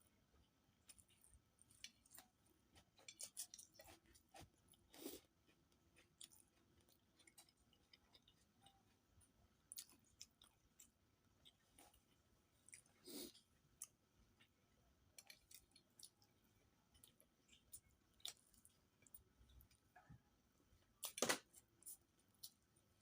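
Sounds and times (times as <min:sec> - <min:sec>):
close-up chewing and mouth sounds: 0:00.3 - 0:20.2, 0:20.8 - 0:23.0.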